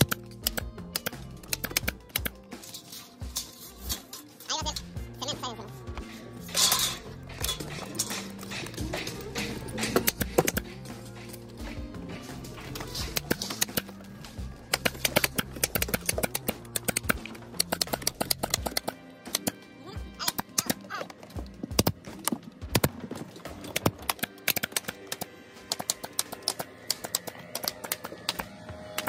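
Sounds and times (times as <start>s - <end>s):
background music: 0.0s - 29.0s.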